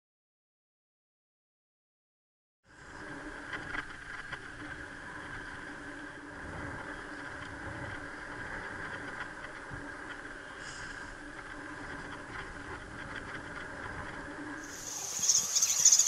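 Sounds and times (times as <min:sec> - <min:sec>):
bicycle tyre and wind noise: 0:02.7 - 0:16.0.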